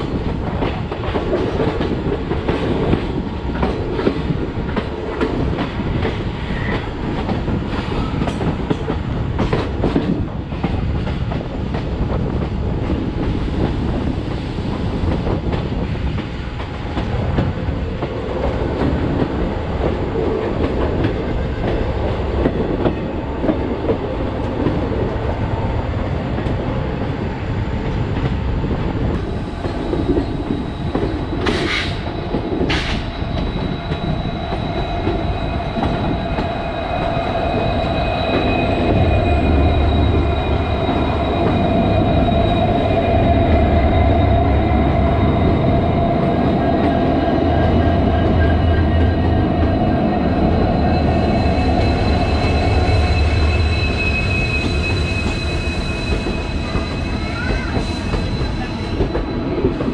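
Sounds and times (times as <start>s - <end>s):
locomotive hum and whining tones: 0.0s - 59.9s
train rumble and clatter: 0.0s - 59.9s.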